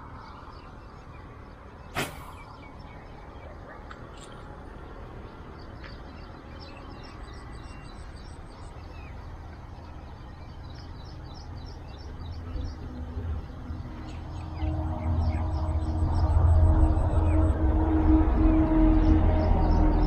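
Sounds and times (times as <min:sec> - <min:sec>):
small birds chirping: 0:00.0 - 0:16.3
low outdoor rumble: 0:00.0 - 0:20.0.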